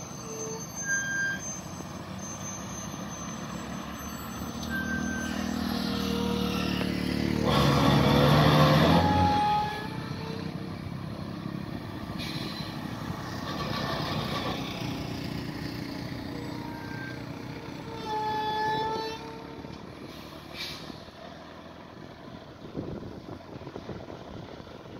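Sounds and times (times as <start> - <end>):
heavy truck diesel engine climbing: 0.0 - 24.9.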